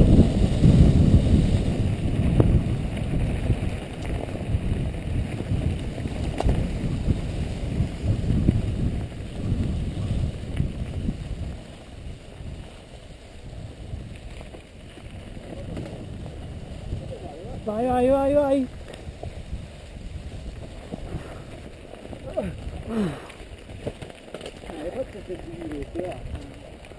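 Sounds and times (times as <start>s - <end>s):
bike tyres rumbling on trail: 0.0s - 26.9s
wind buffeting microphone: 0.0s - 26.9s.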